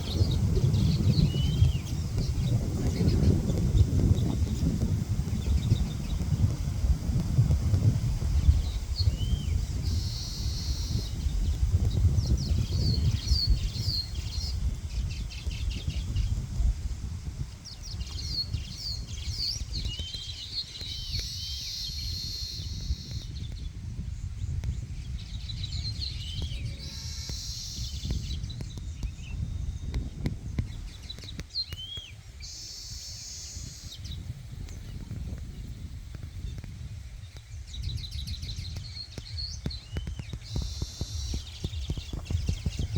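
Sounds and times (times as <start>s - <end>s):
small birds chirping: 0.0s - 42.9s
wind rumble on microphone: 0.0s - 42.9s.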